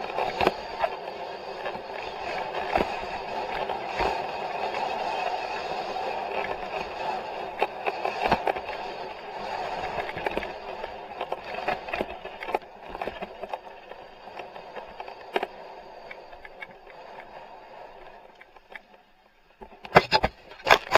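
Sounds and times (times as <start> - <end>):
wind and tyre noise: 0.0 - 20.9.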